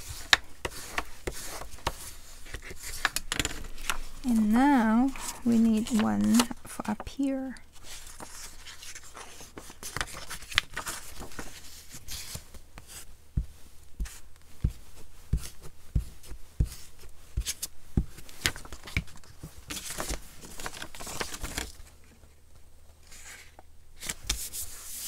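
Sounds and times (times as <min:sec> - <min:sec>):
paper rustling and scraping: 0:00.0 - 0:07.1, 0:07.7 - 0:13.1, 0:15.0 - 0:21.9, 0:23.0 - 0:25.0.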